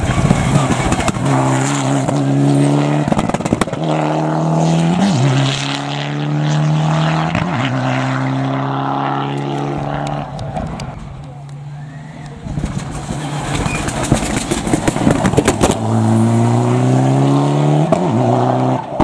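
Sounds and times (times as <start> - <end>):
rally car engine revving hard: 0.0 - 10.9, 12.4 - 19.0.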